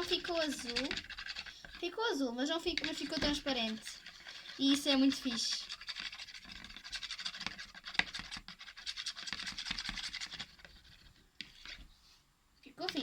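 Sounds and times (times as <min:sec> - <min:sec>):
utensil stirring glue in container: 0:00.0 - 0:12.0, 0:12.6 - 0:13.0.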